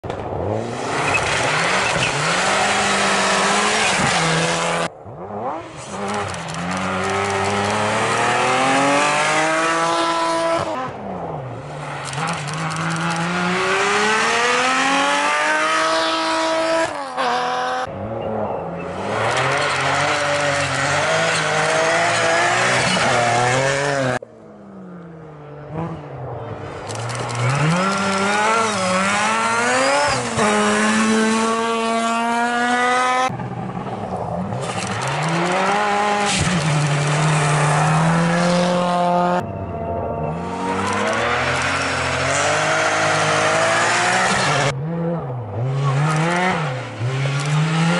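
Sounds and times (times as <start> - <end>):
rally cars passing at speed: 0.0 - 47.9.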